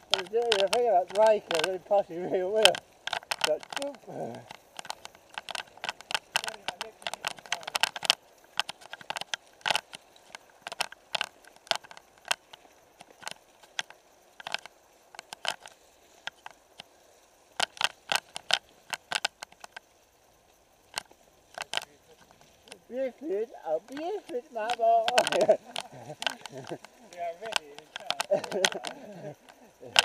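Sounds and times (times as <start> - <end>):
mountain bike clattering: 0.0 - 20.1, 20.8 - 30.0.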